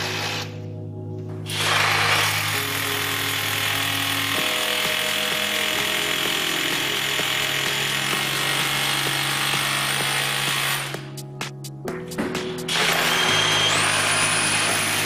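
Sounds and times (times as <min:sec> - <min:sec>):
hammer drill boring into masonry: 0:00.0 - 0:00.6, 0:01.5 - 0:11.0, 0:12.7 - 0:15.0.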